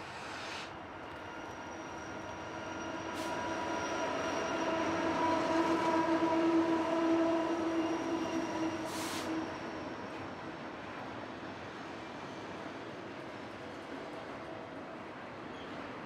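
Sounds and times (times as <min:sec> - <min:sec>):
freight train rumbling past: 0:00.0 - 0:15.4.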